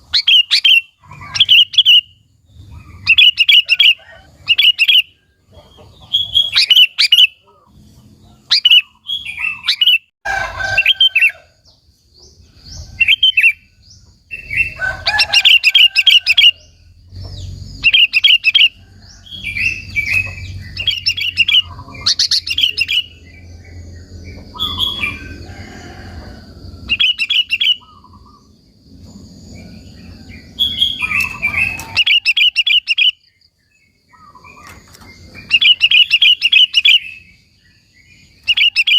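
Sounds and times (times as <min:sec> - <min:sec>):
bird singing chirping phrases: 0:00.0 - 0:38.9.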